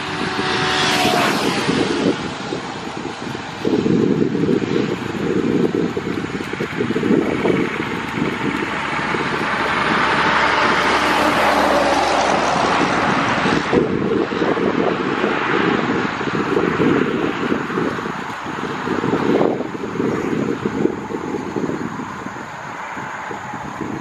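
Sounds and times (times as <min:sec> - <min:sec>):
turboprop engines roaring: 0:00.0 - 0:24.0
wind rumble on microphone: 0:00.0 - 0:24.0.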